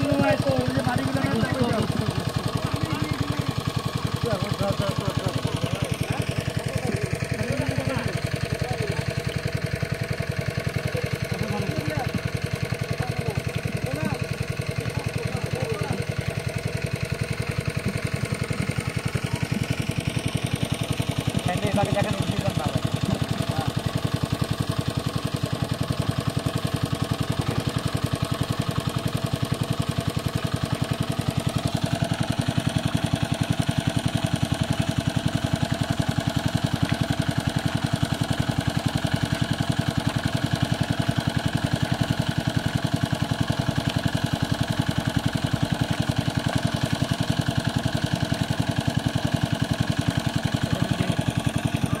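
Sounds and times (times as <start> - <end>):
small engine chugging: 0.0 - 52.0.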